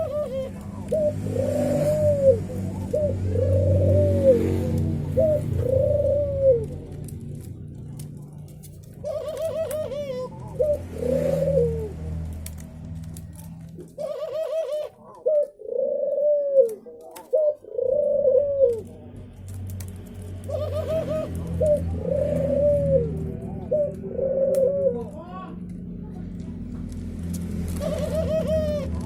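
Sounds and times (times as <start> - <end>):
dove cooing: 0.0 - 12.6, 13.4 - 19.0, 20.2 - 25.2, 27.7 - 29.0.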